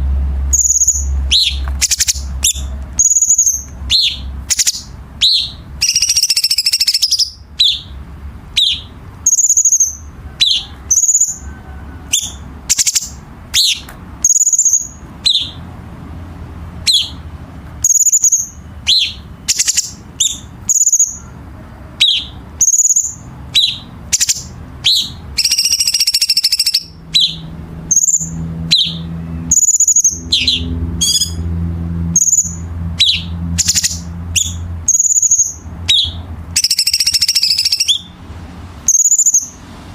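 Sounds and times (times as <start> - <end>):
songbird whistling sharp notes: 0.5 - 8.0, 8.6 - 11.5, 12.1 - 15.6, 16.8 - 17.2, 17.8 - 21.3, 22.0 - 31.4, 32.2 - 38.2, 38.9 - 39.6.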